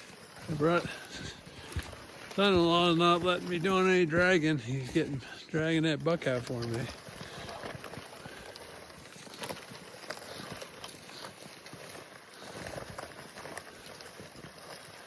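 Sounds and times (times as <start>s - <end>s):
footsteps: 0.0s - 15.0s
rustling of dragging over ground: 0.0s - 15.0s.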